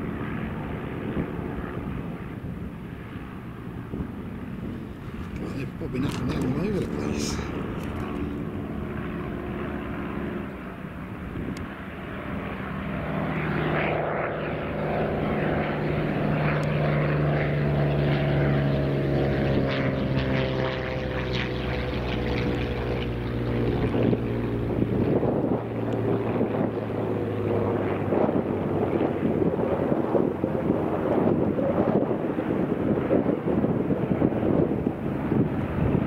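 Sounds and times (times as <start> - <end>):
biplane engines flying past: 0.0 - 36.0.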